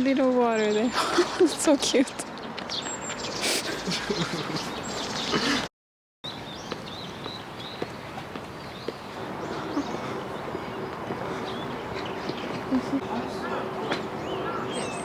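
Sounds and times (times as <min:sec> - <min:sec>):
outdoor background noise: 0:00.0 - 0:15.0
small birds chirping: 0:00.4 - 0:05.7, 0:06.3 - 0:15.0.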